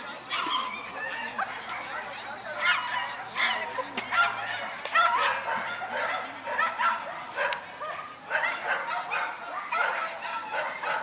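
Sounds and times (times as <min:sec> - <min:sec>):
dog barking in high yaps: 0:00.3 - 0:01.9, 0:02.6 - 0:11.0.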